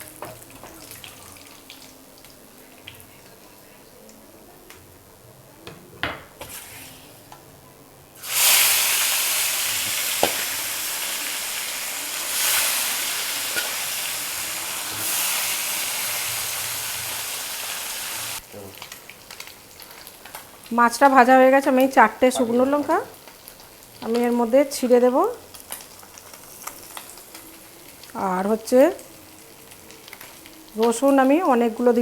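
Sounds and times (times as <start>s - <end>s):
fish sizzling in hot oil: 0.0s - 4.1s, 8.2s - 32.0s.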